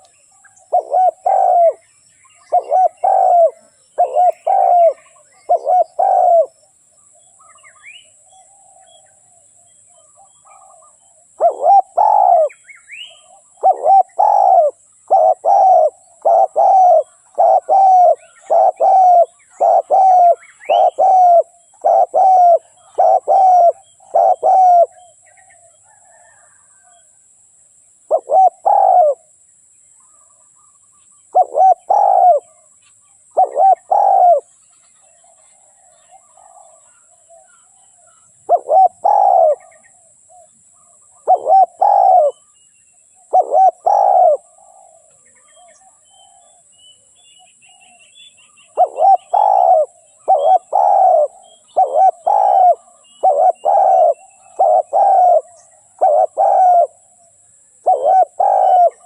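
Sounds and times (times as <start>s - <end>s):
dove cooing: 0.0s - 6.6s, 10.0s - 27.0s, 28.1s - 29.3s, 31.3s - 32.7s, 33.3s - 34.5s, 35.2s - 42.5s, 43.2s - 46.7s, 48.7s - 59.0s
small birds chirping: 0.0s - 27.0s, 27.9s - 29.3s, 29.9s - 59.0s.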